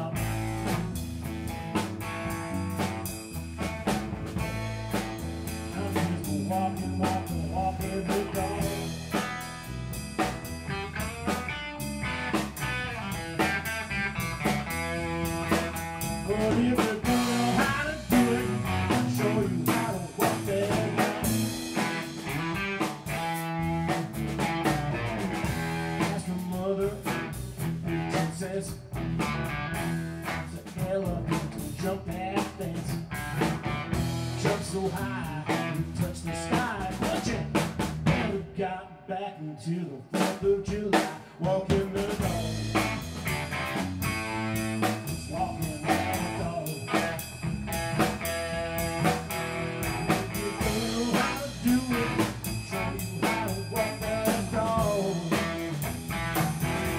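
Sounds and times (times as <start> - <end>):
drum kit: 0.0 - 38.5, 40.1 - 56.9
electric guitar lead with bent notes: 0.0 - 38.5, 42.0 - 56.9.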